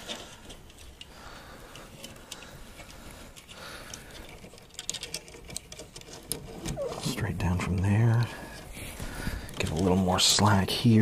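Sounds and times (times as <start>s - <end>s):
cables rustling: 0.0s - 11.0s.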